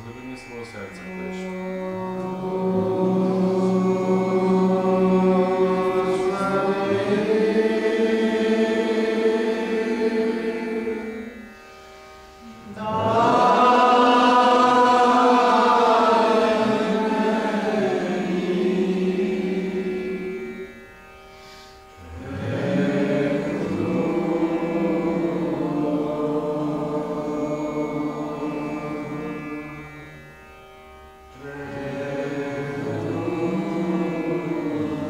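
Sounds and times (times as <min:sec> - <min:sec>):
faint steady drone: 0:00.0 - 0:35.0
voices chanting: 0:01.1 - 0:11.4, 0:12.4 - 0:20.6, 0:22.0 - 0:29.8, 0:31.4 - 0:35.0.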